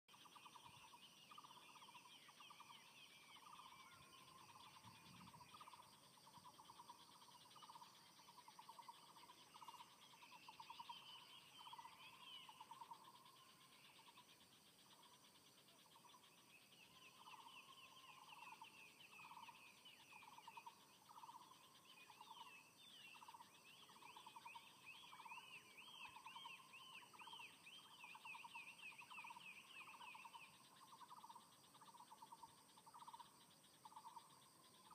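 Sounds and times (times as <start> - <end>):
steady high-pitched whine: 0.1 - 34.9.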